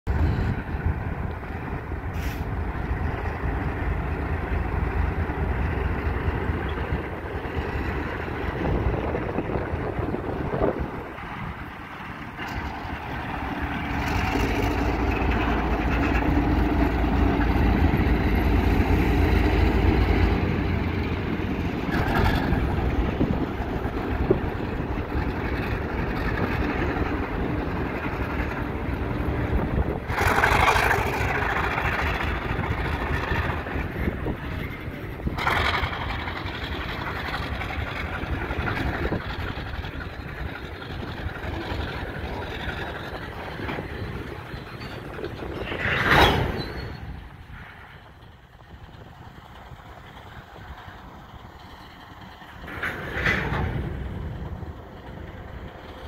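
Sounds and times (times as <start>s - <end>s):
diesel locomotive engine rumble: 0.0s - 56.0s
freight cars rolling on track: 0.1s - 56.0s.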